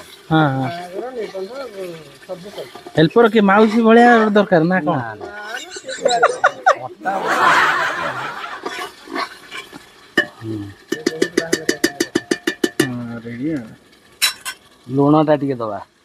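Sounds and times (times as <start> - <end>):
metal spatula scraping pot: 0.0 - 6.8, 8.0 - 14.8
masala sizzling: 0.0 - 16.0.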